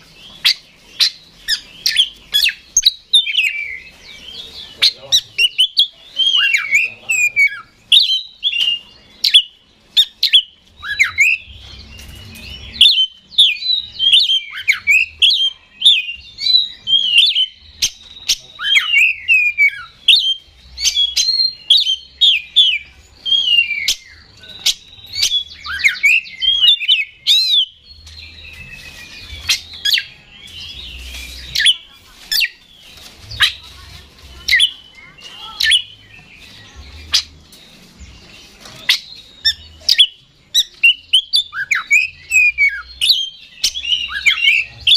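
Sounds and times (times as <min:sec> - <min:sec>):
bird song with whistles and clicks: 0:00.0 - 0:44.9.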